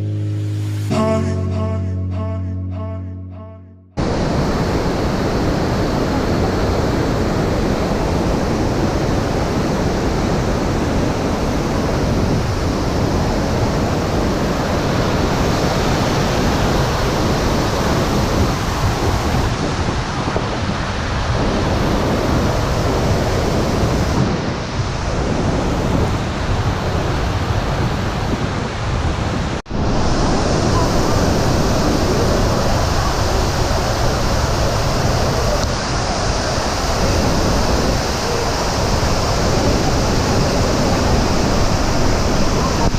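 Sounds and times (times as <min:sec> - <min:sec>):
waterfall roaring: 0:04.0 - 0:28.1, 0:29.5 - 0:42.9.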